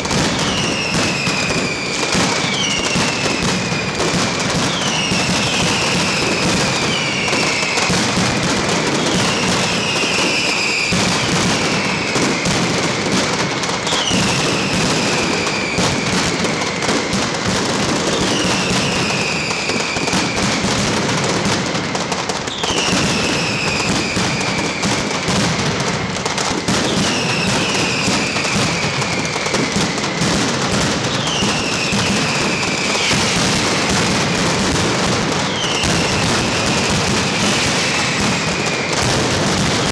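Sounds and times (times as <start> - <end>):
firecrackers rattling: 0.0 - 39.9
whistling fireworks: 0.0 - 39.9.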